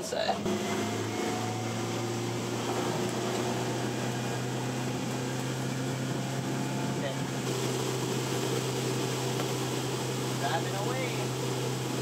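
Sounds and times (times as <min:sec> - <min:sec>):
outboard motor humming: 0:00.0 - 0:12.0
water and hull noise: 0:00.4 - 0:12.0.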